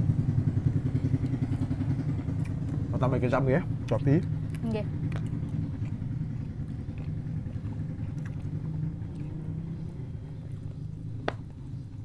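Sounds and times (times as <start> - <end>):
low engine-like drone: 0.0 - 12.0.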